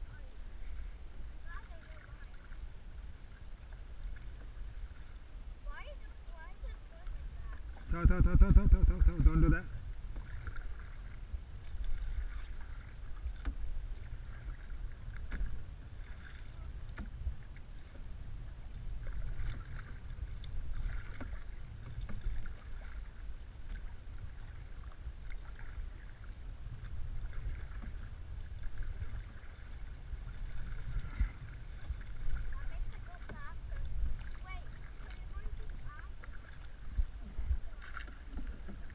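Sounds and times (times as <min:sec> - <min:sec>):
paddles splashing in water: 0:00.0 - 0:38.9
steady low rumble: 0:00.0 - 0:38.9.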